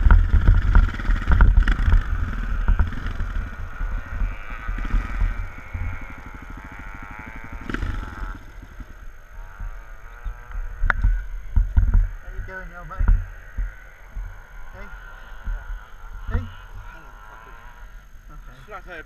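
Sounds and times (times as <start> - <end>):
wind rumbling on microphone: 0.0 - 18.4
motorcycle engine idling: 0.0 - 19.0.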